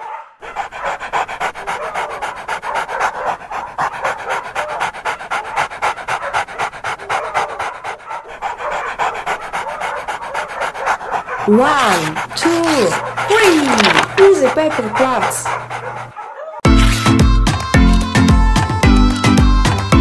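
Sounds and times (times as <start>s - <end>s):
dog panting: 0.4s - 17.1s.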